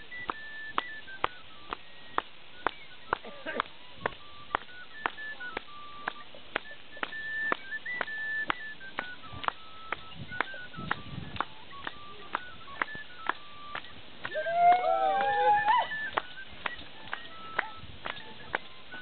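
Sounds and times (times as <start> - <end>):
high piping dance melody: 0.0 - 19.0.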